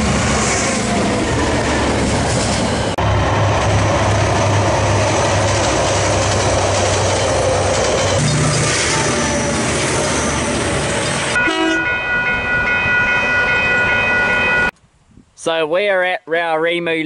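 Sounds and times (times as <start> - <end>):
train wheels on rails: 0.0 - 14.0
locomotive hum: 0.0 - 14.8.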